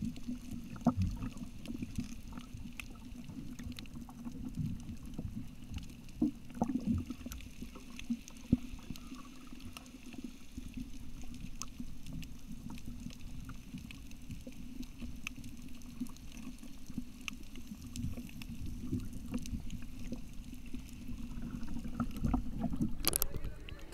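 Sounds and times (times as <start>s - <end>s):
low underwater rumble: 0.0s - 23.9s
sharp clicks and crackles: 0.0s - 23.9s.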